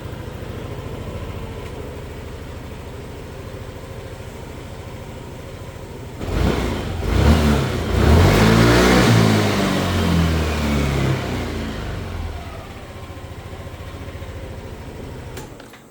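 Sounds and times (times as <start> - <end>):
scooter engine revving: 0.0 - 15.6.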